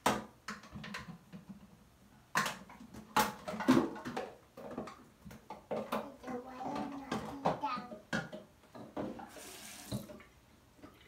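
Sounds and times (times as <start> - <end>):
household objects knocking and clattering: 0.0 - 11.0.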